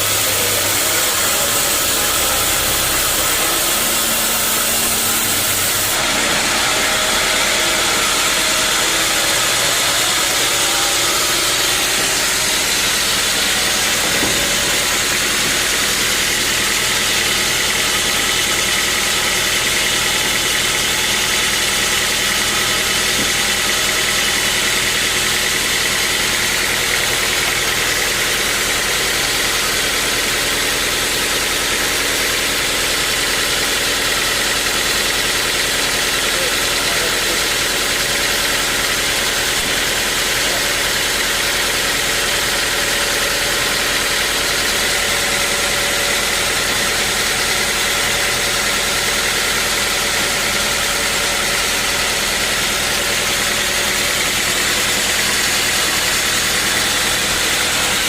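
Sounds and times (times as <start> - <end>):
bandsaw sawmill hum and whine: 0.0 - 58.0.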